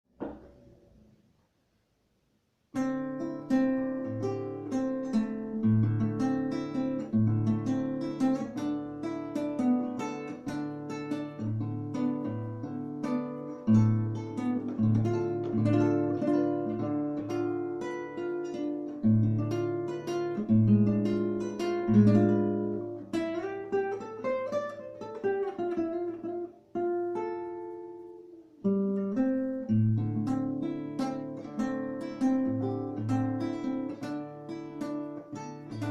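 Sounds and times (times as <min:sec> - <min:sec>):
acoustic guitar plucking: 0:00.1 - 0:00.7, 0:02.7 - 0:35.9.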